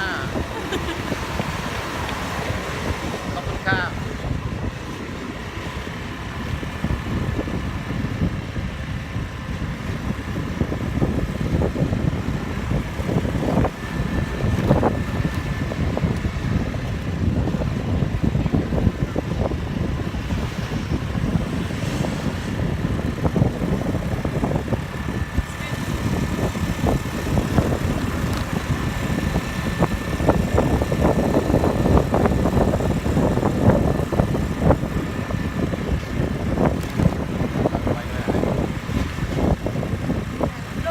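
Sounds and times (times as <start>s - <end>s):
motorbike engine running: 0.0s - 40.9s
road and wind noise: 0.0s - 40.9s.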